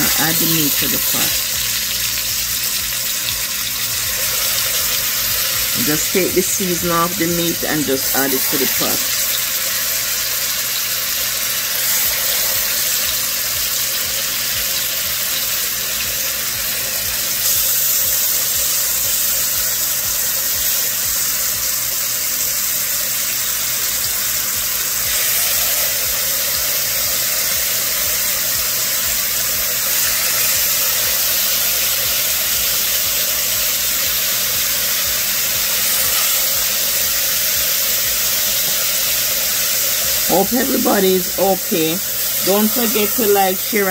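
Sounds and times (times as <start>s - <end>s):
meat sizzling in oil: 0.0s - 43.9s.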